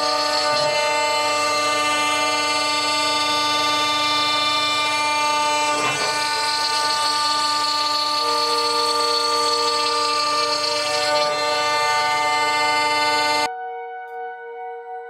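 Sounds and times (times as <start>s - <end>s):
router spindle whine: 0.0s - 13.5s.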